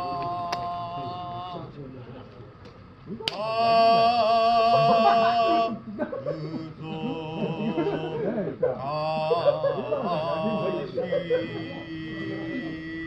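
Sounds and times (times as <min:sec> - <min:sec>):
man singing a work chant: 0:00.0 - 0:01.8, 0:03.2 - 0:13.0.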